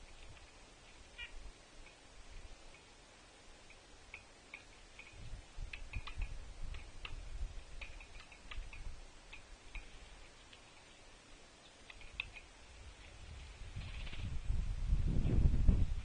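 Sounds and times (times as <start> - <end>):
birds ticking and tapping: 0.0 - 14.5.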